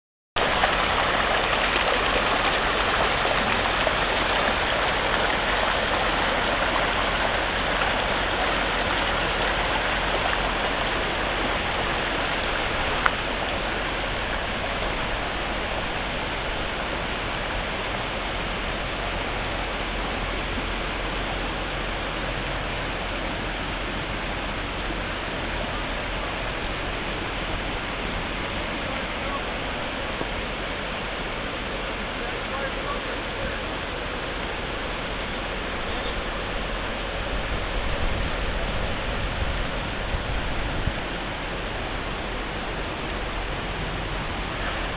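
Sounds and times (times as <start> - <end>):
floodwater rushing: 0.4 - 44.9.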